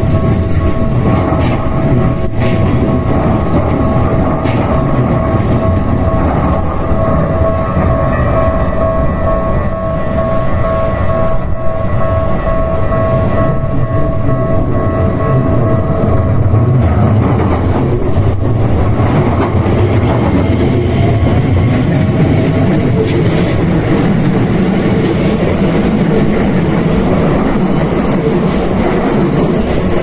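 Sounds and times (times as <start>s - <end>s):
train wheels clattering over rails: 0.0s - 9.8s, 12.6s - 30.0s
level crossing warning bell: 0.0s - 30.0s.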